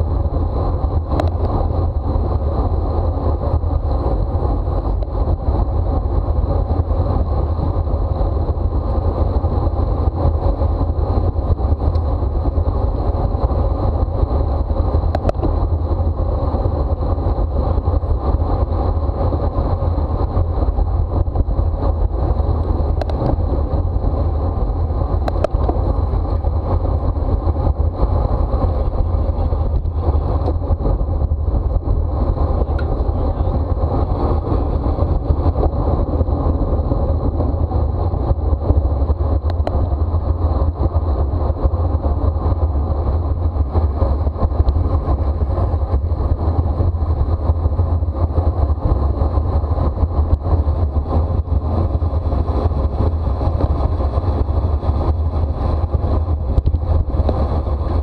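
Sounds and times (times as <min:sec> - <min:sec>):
tyre and road noise: 0:00.0 - 0:58.0
wind rumble on microphone: 0:00.0 - 0:58.0.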